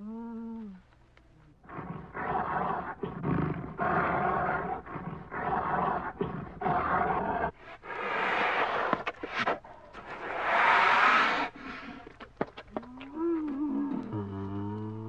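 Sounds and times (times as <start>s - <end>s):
bear cubs humming: 1.6s - 15.0s.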